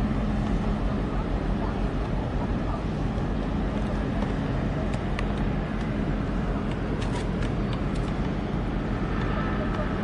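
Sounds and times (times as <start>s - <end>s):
ship engine rumble: 0.0s - 10.0s.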